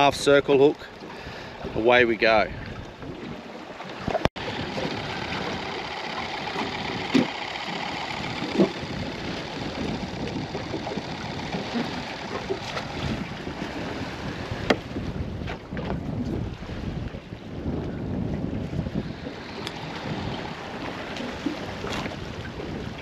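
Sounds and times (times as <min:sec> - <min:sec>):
water noise around boat: 0:00.0 - 0:23.0
wind: 0:00.0 - 0:23.0.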